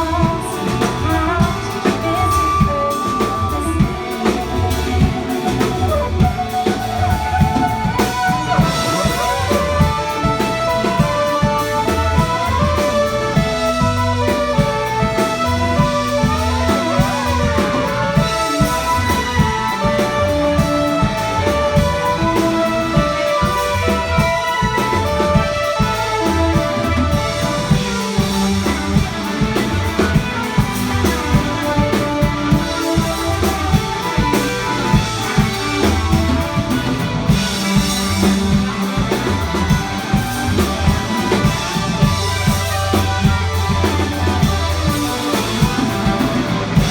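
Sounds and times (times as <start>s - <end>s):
drum-kit beat: 0.0s - 46.9s
rock guitar: 0.0s - 46.9s.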